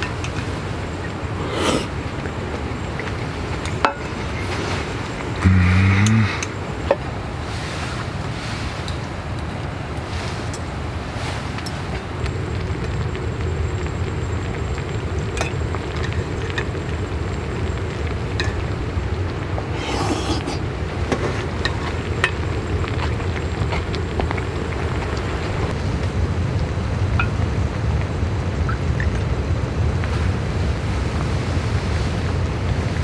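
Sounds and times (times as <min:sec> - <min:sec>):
hotpot simmering: 0:00.0 - 0:29.9
rustle: 0:00.0 - 0:33.0.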